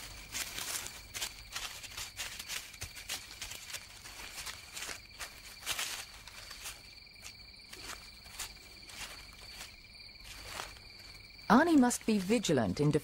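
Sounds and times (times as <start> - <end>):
claws scratching on bark: 0.0 - 12.6
crickets trilling: 0.0 - 13.0.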